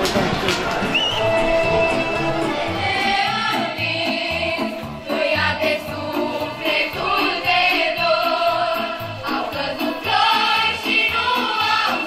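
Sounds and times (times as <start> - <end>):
group of voices singing: 1.2 - 12.0.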